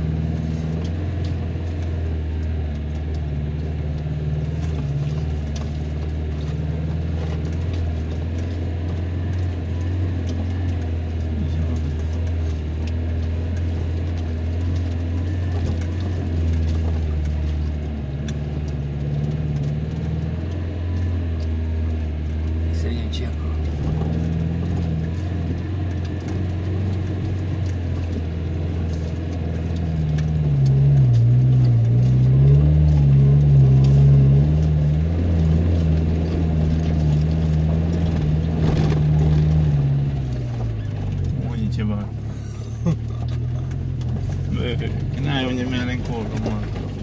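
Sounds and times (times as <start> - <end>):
rattles and clicks from vehicle body: 0.0 - 47.0
vehicle engine low drone: 0.0 - 47.0.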